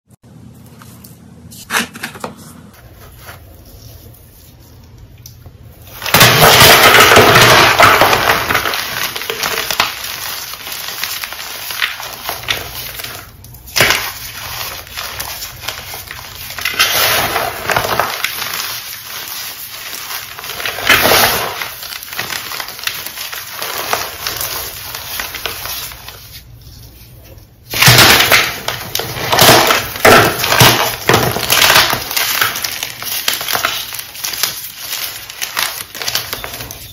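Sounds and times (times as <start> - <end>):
chalk blocks crunching by hand: 5.9 - 36.9.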